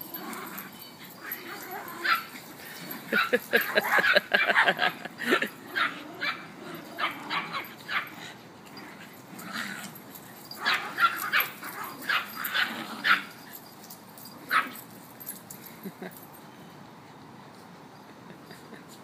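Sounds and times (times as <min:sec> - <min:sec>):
dogs barking and yipping: 0:00.0 - 0:16.2.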